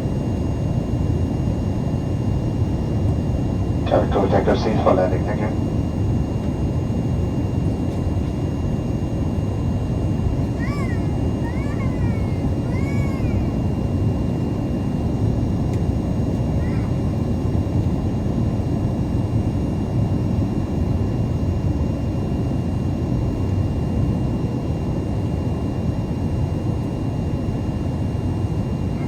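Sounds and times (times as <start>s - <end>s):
low rumble of engines and airflow: 0.0s - 29.0s.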